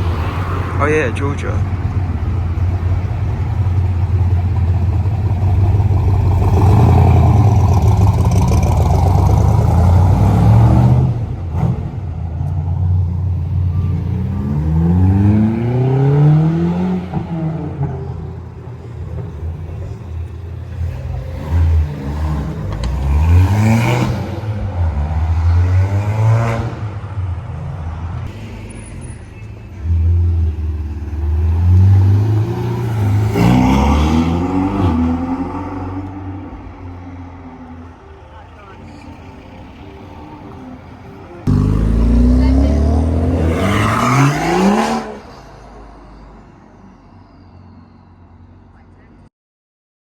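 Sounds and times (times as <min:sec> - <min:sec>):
car engines accelerating: 0:00.0 - 0:46.2.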